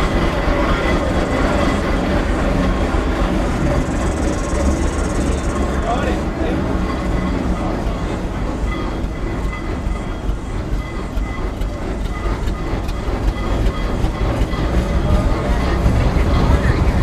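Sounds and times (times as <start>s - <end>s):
steam traction engine rumbling: 0.0s - 17.0s.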